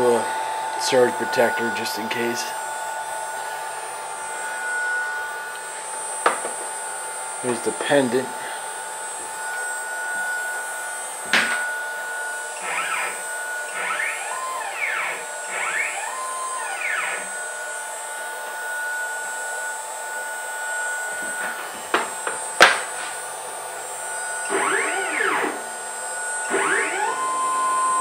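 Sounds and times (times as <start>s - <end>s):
steady high whine: 0.0s - 28.0s
stepper motor whine: 0.0s - 28.0s.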